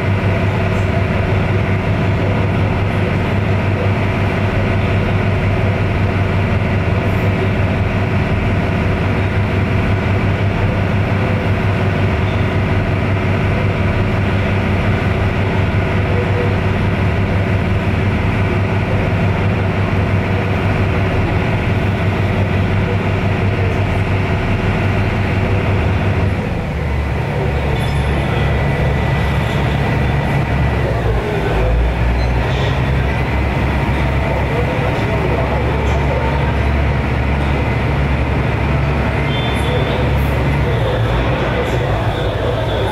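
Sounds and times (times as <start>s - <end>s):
ferry engine droning: 0.0s - 42.9s.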